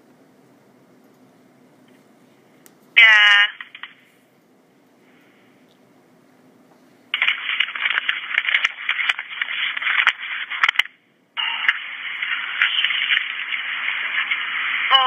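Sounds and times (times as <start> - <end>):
crackling telephone line noise: 1.0 - 5.9, 6.6 - 15.0.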